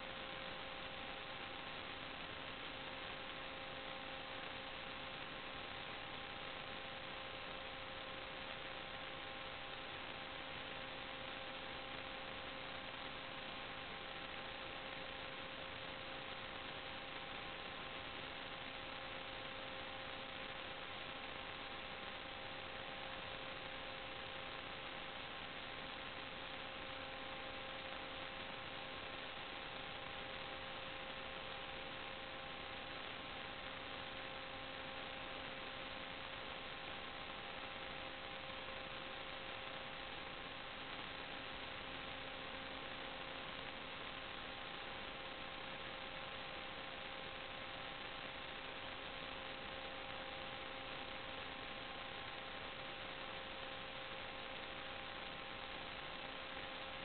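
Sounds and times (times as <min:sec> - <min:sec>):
electrical hiss: 0:00.0 - 0:57.0
faint electrical hum: 0:00.0 - 0:57.0.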